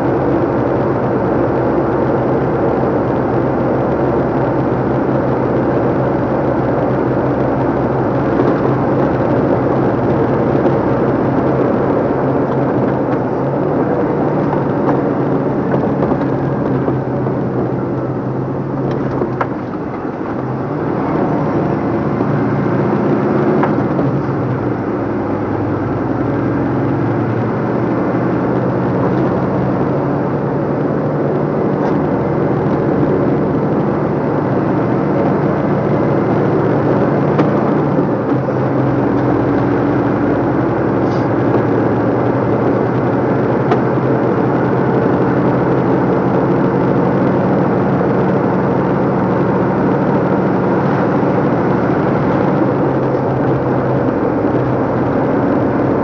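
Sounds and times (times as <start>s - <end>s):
road and tyre noise: 0.0s - 56.0s
truck engine running: 0.0s - 56.0s.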